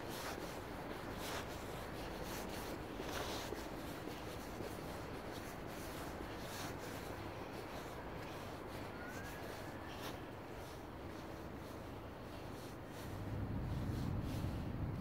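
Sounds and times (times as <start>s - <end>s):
footsteps on asphalt: 0.0s - 15.0s
low outdoor hum: 0.0s - 15.0s.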